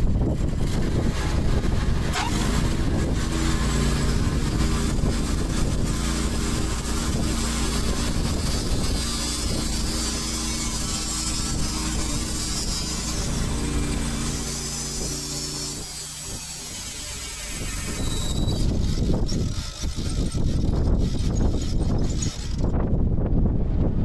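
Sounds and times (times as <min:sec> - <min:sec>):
sawmill gas engine running: 0:00.0 - 0:22.9.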